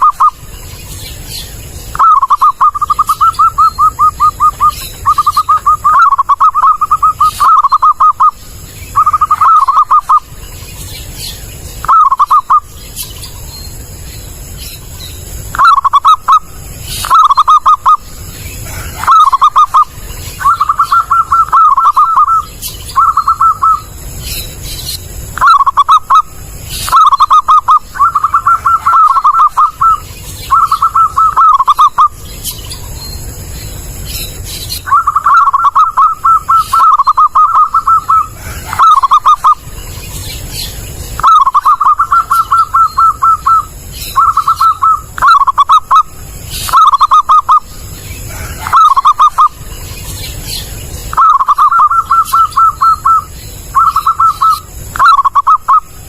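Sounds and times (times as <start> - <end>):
dove cooing: 0.0 - 0.5, 1.3 - 10.4, 11.1 - 12.7, 15.5 - 24.0, 25.3 - 32.2, 34.8 - 39.8, 41.2 - 49.7, 51.1 - 55.9
faint high-pitched chirps: 0.0 - 56.0.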